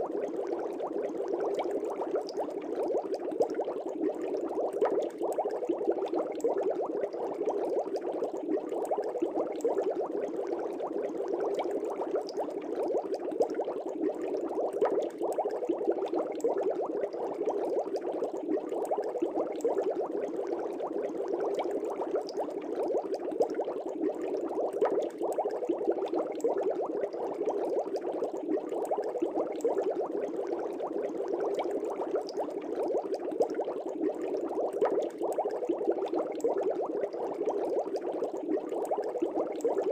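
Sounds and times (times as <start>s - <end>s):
fish tank air bubbling: 0.0s - 39.9s.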